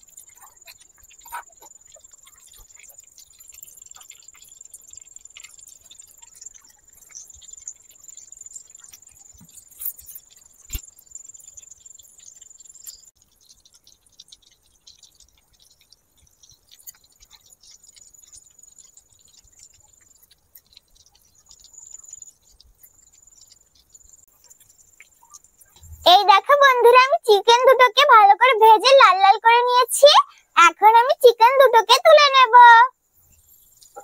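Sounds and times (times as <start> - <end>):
hot oil crackling and popping: 0.0 - 34.0.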